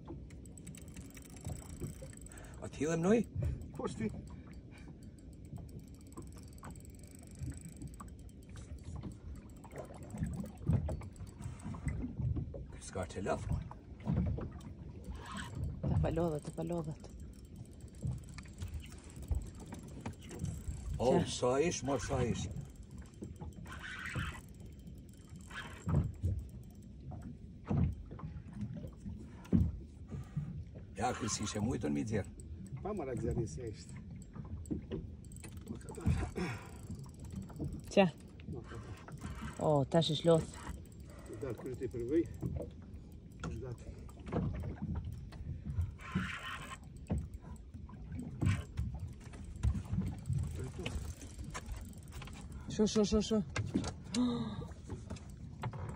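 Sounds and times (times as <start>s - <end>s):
water sloshing against boat hull: 0.0s - 55.9s.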